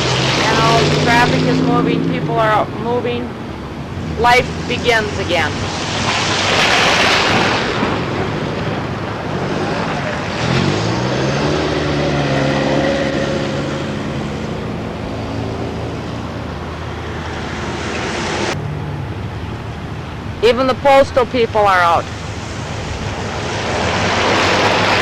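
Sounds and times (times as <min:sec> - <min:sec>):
vehicle engine driving past: 0:00.0 - 0:20.2.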